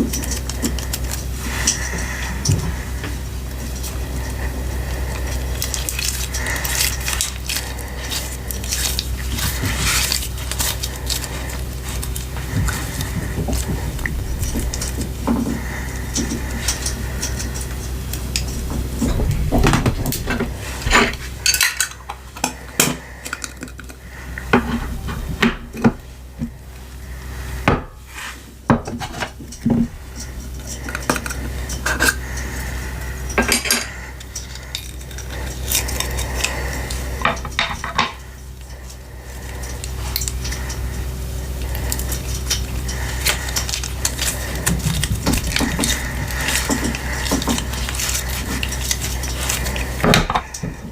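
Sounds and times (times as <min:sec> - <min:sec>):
slime being stirred in a bowl: 0:00.0 - 0:50.9.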